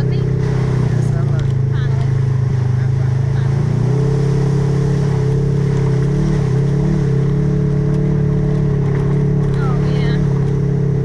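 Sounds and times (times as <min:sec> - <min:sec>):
four-wheeler engine running: 0:00.0 - 0:11.0.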